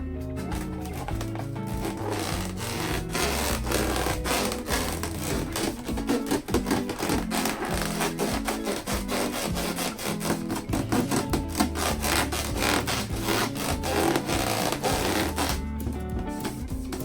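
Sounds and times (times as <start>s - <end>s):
background music: 0.0s - 17.0s
balloons rubbed squeaking: 0.8s - 15.7s.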